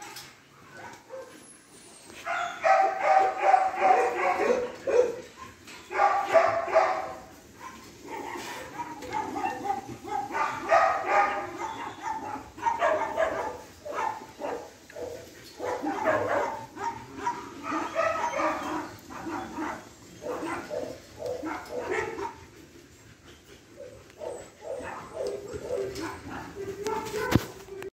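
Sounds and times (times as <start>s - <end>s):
dogs barking and whining: 0.0s - 27.9s.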